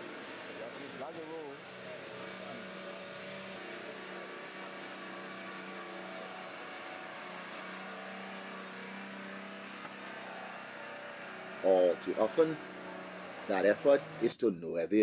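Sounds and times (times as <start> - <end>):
engine running at low speed: 0.0 - 14.4.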